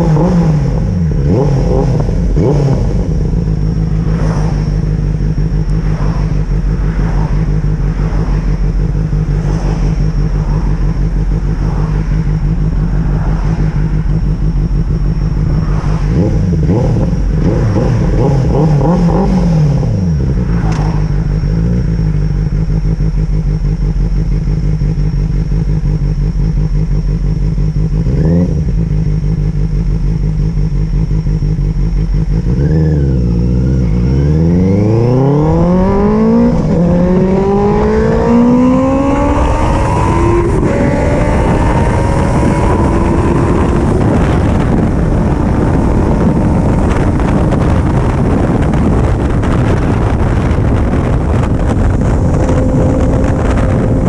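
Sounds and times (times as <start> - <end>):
motorcycle engine: 0.0 - 54.0
rushing wind: 0.0 - 54.0.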